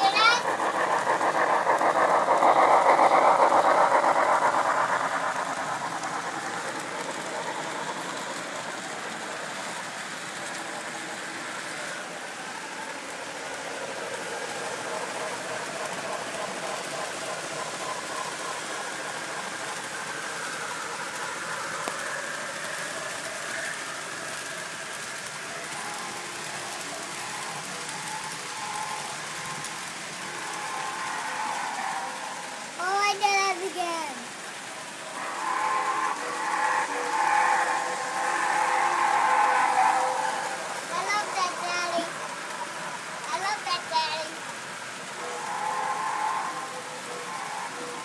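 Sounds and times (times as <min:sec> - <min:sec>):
model train rattling on track: 0:00.0 - 0:48.0.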